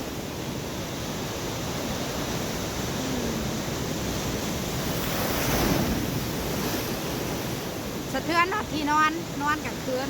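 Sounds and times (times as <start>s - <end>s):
storm surf breaking on shore: 0.0s - 10.0s.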